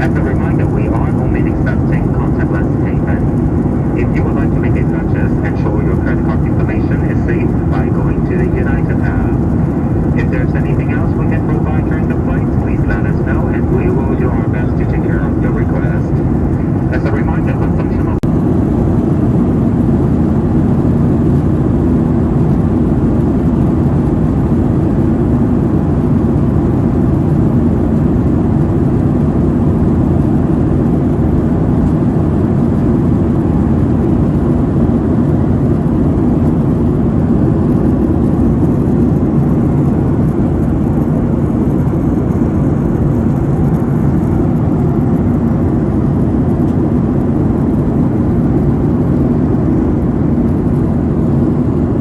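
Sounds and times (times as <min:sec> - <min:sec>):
jet airliner cabin rumble: 0:00.0 - 0:52.0.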